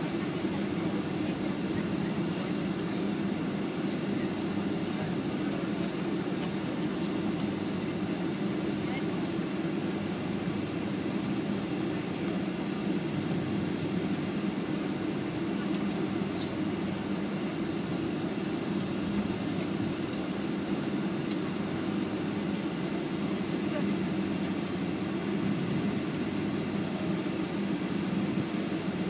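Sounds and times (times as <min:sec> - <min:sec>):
aircraft engines idling hum: 0:00.0 - 0:29.0.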